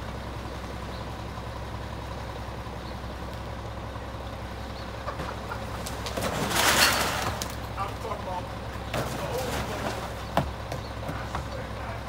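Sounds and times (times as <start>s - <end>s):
truck engine idling hum: 0.0s - 12.0s.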